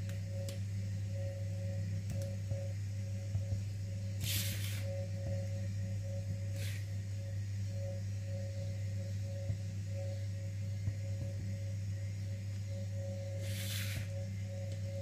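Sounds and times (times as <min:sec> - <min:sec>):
soft background music: 0:00.0 - 0:15.0
steady low hum: 0:00.0 - 0:15.0.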